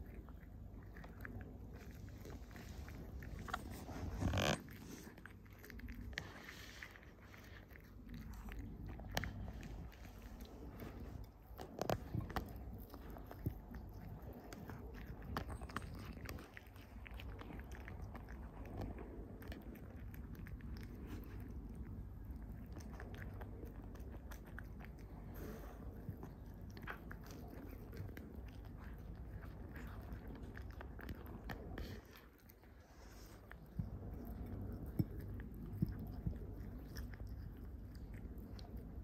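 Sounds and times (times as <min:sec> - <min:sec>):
cat chewing food: 0:00.0 - 0:39.0.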